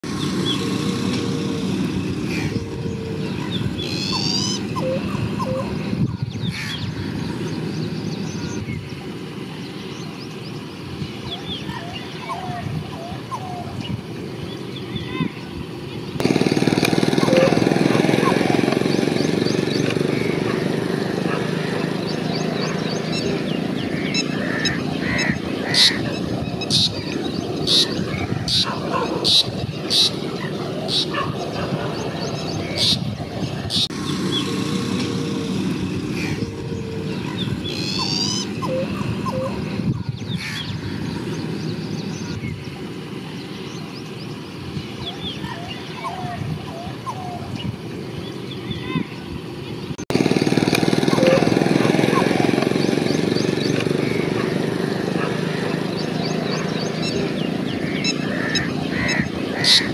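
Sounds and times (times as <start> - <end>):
birds calling: 0.0 - 59.9.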